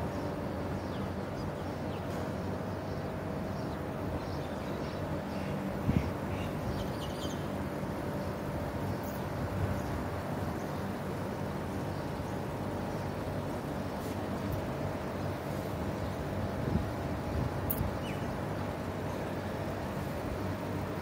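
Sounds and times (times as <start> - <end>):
city background hum: 0.0 - 21.0.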